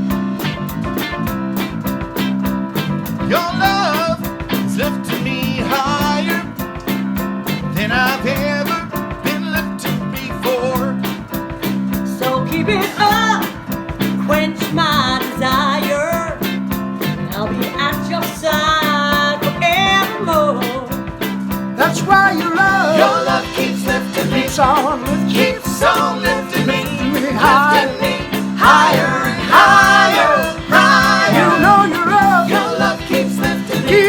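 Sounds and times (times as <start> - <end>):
repeating bass line: 0.0 - 19.9, 21.6 - 34.0
soul band playing: 0.0 - 34.0.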